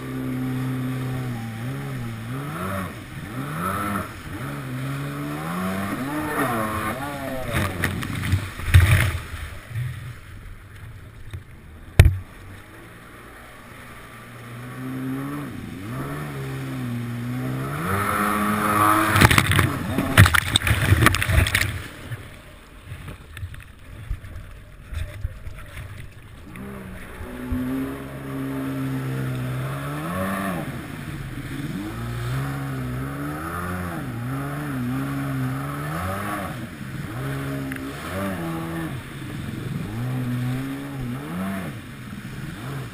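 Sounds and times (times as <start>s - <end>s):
jet ski engine revving: 0.0s - 22.8s, 23.8s - 42.9s
water spraying against hull: 0.0s - 42.9s.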